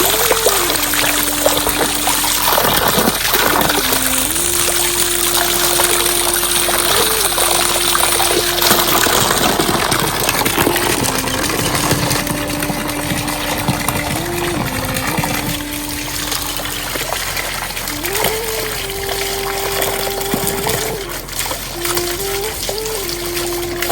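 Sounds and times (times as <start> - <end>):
heavy rain falling: 0.0 - 23.9
slow melody of held notes: 0.0 - 23.9
water pouring and trickling: 0.0 - 23.9.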